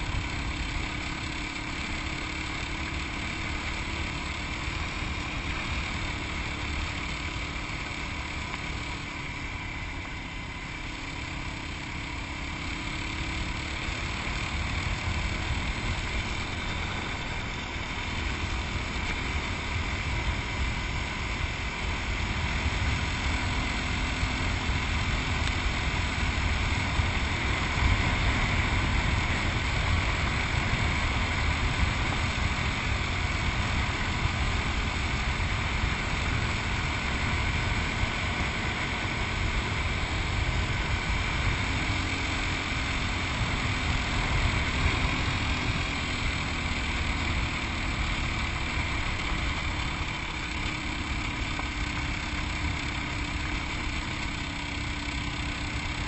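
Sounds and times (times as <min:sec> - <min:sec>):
motorcycle engine running: 0:00.0 - 0:56.0
steady rushing noise: 0:00.0 - 0:56.0.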